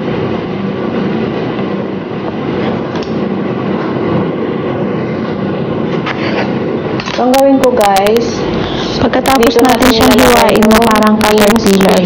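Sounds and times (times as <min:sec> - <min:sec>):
loud rumbling noise: 0:00.0 - 0:12.0.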